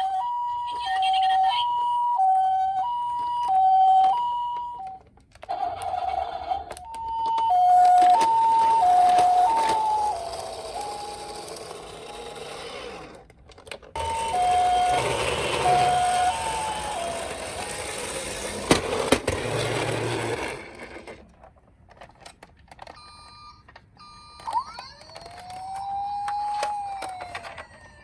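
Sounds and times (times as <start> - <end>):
two-tone ambulance siren: 0.0 - 12.7, 14.0 - 18.8, 23.0 - 28.0.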